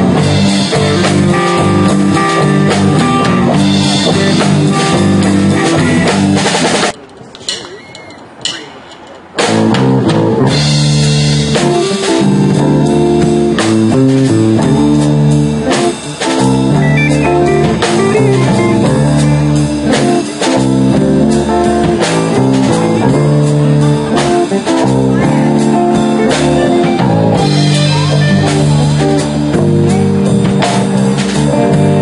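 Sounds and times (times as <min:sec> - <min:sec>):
live blues-rock band: 0:00.0 - 0:07.0, 0:09.2 - 0:32.0.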